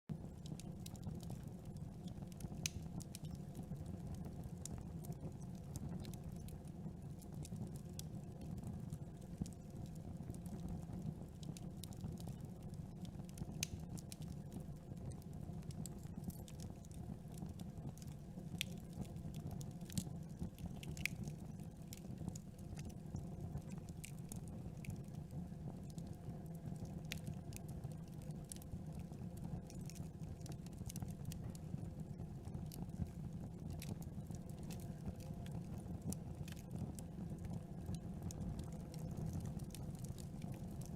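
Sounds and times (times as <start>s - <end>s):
campfire crackling: 0.3s - 40.9s.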